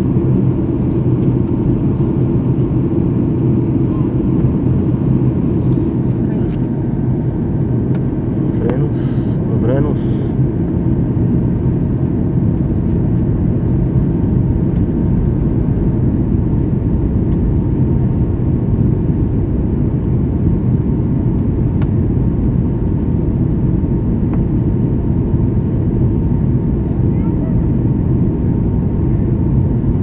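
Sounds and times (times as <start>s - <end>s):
airliner cabin engine rumble: 0.0s - 30.0s
faint steady whine: 2.8s - 30.0s.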